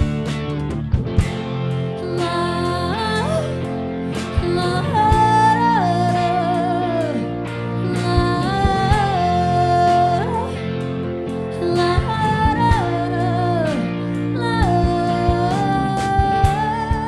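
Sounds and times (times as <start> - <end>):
drum kit: 0.0 - 17.0
electric guitar chords: 0.0 - 17.0
woman singing: 2.0 - 10.8, 11.5 - 17.0.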